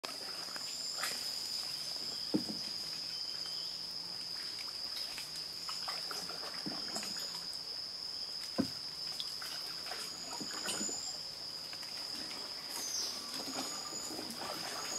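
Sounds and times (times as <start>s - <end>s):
high-pitched insect drone: 0.1s - 14.9s.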